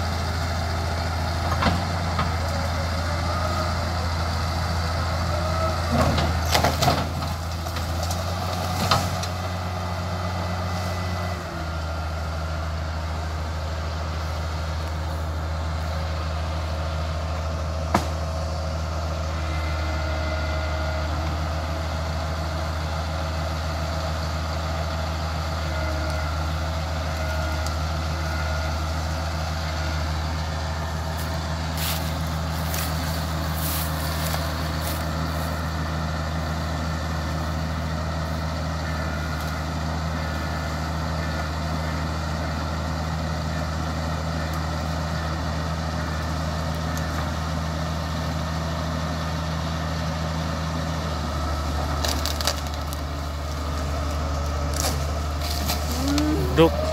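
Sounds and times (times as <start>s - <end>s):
bulldozer diesel engine droning: 0.0s - 56.9s.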